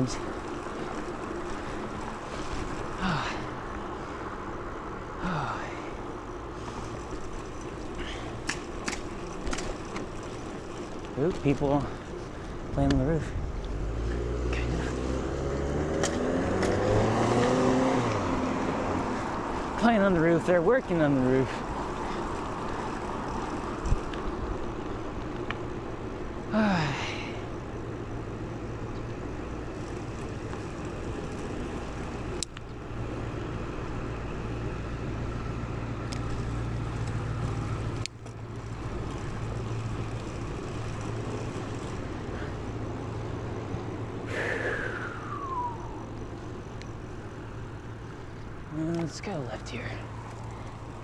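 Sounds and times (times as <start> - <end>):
street traffic: 0.0 - 51.0.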